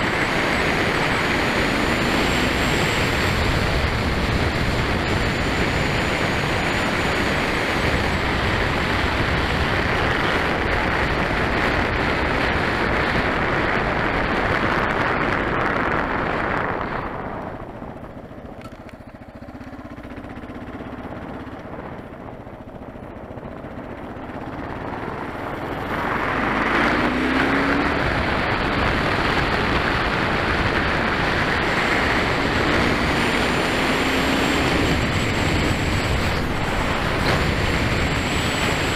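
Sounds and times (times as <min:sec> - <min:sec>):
motorcycle engine: 0:00.0 - 0:38.9
wind rushing over microphone: 0:00.0 - 0:38.9.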